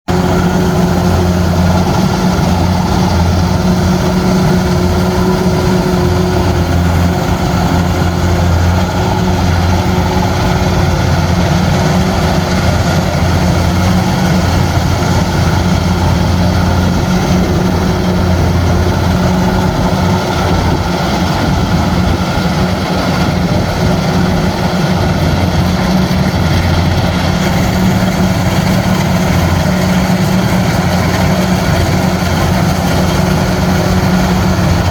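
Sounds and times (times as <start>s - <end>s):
combine harvester engine droning: 0.1s - 34.9s.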